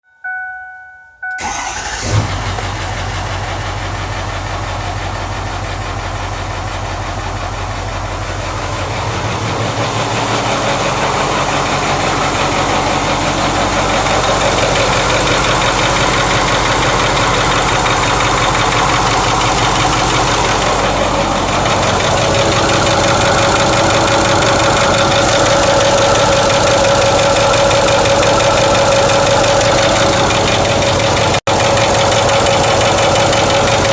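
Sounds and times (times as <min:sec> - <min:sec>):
diesel engine clatter: 0:01.4 - 0:33.9
engine knocking: 0:01.4 - 0:33.9.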